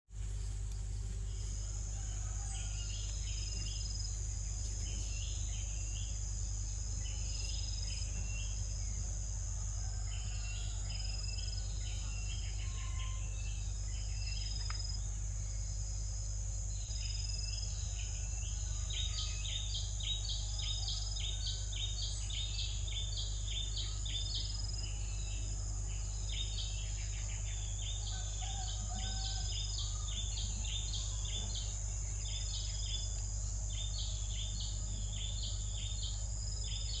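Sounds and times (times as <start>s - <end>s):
low constant hum: 0.1s - 37.0s
high-pitched insect drone: 1.4s - 37.0s.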